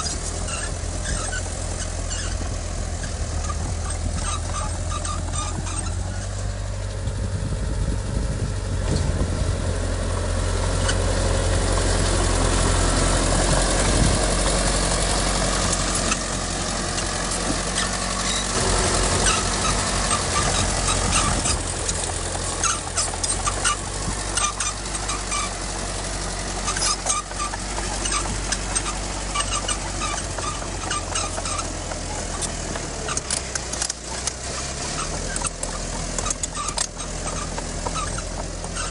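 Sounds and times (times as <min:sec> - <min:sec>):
heavy diesel machinery running: 0:00.0 - 0:38.9
sharp clanks and rattles: 0:00.0 - 0:38.9.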